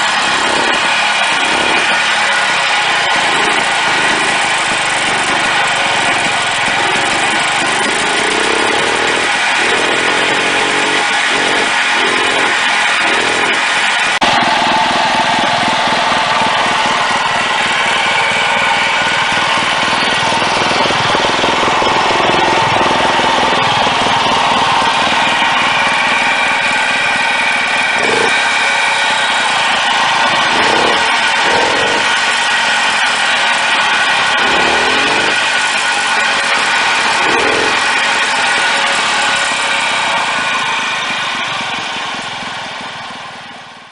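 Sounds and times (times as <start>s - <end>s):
engine idling steadily: 0.0s - 43.9s.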